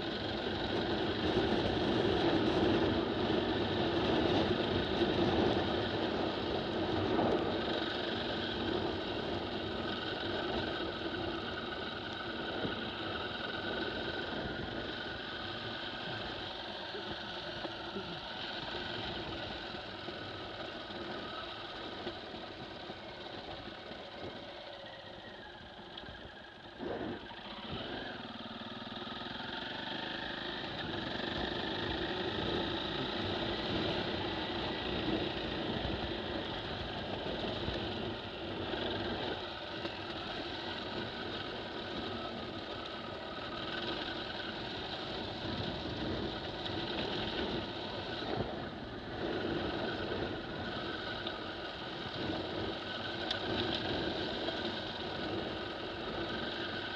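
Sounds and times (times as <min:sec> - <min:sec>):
trail bike engine running: 0:00.0 - 0:56.9.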